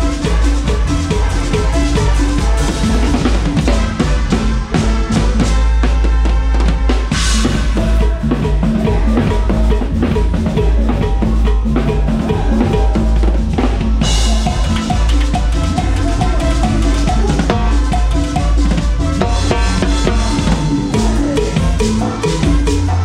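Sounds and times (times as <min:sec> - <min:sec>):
drum kit beat: 0:00.0 - 0:23.0
live cumbia band playing: 0:00.0 - 0:23.0.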